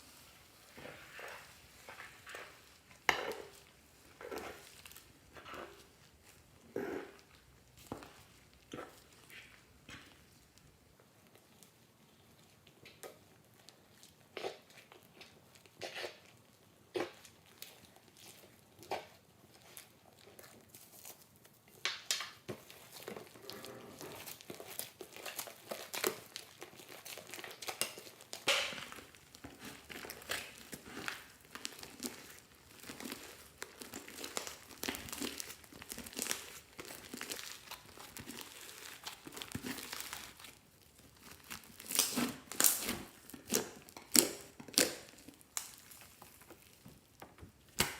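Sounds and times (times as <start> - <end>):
crinkling and crackling: 0.0 - 47.9.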